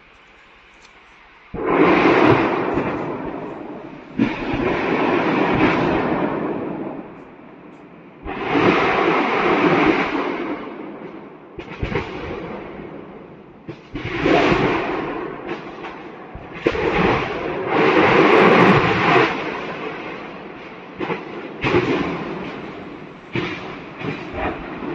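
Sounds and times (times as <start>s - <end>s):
sharp cracks: 0.0s - 12.9s, 13.7s - 24.9s
explosion blasts: 1.5s - 24.9s.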